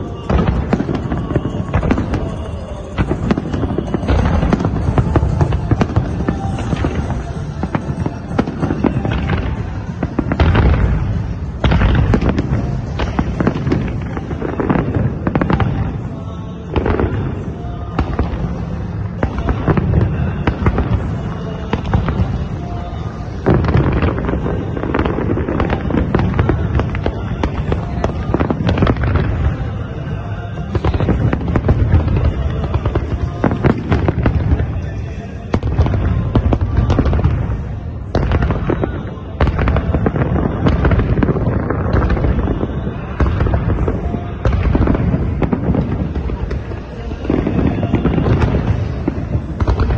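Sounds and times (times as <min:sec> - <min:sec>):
fireworks bangs and crackling: 0:00.0 - 0:49.9
music playing: 0:00.0 - 0:49.9.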